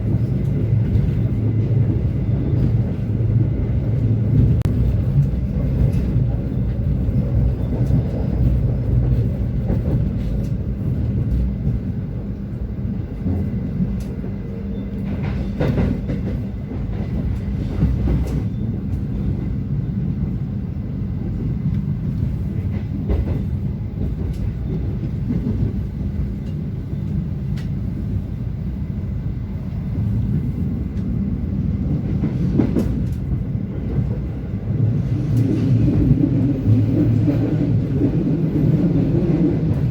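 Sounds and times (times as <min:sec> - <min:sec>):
sharp clicks of train: 0:00.0 - 0:28.2, 0:29.0 - 0:31.2, 0:31.8 - 0:39.9
train rumbling on track: 0:00.0 - 0:39.9.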